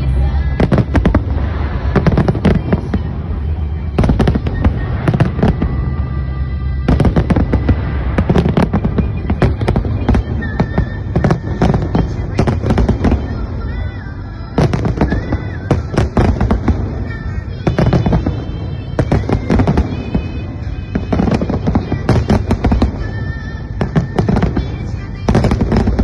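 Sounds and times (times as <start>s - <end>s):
low rumble: 0.0s - 21.2s
fireworks bangs and crackling: 0.0s - 26.0s.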